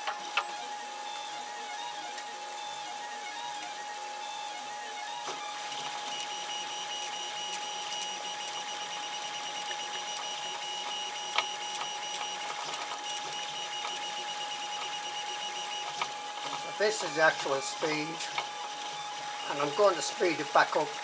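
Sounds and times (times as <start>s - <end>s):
printer stepper motors whining: 0.0s - 21.0s.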